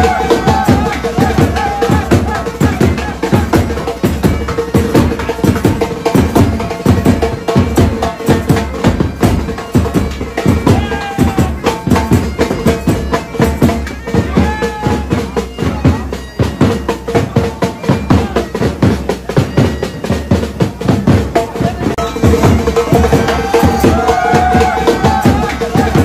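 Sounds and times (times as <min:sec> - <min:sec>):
dance music with fast drums: 0:00.0 - 0:26.0.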